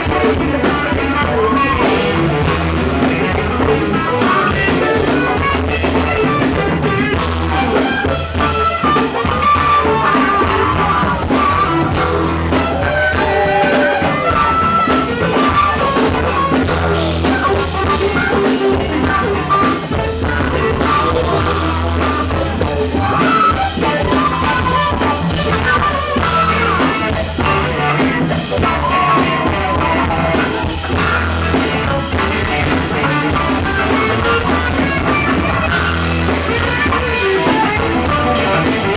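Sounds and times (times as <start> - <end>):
funk band playing live: 0.0 - 38.9.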